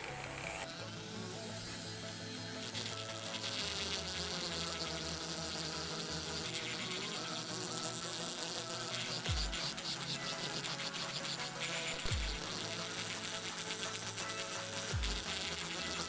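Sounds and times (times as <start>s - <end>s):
rotary tool grinding metal: 0.0s - 16.0s.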